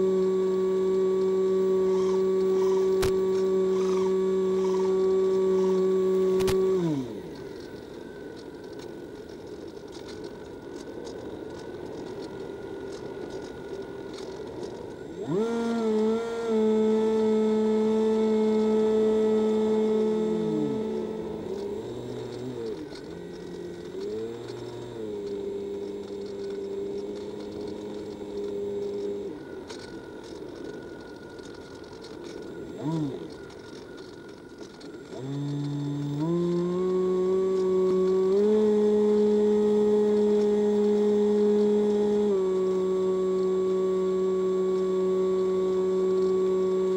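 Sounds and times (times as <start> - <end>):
model plane motor whine: 0.0 - 46.9.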